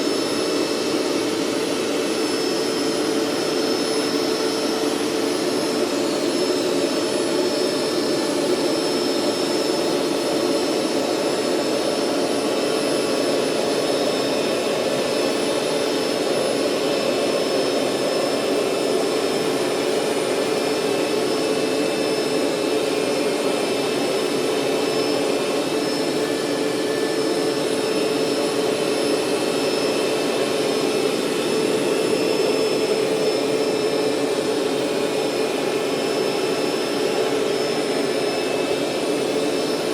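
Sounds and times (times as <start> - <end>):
carpet cleaner motor whining: 0.0 - 39.9.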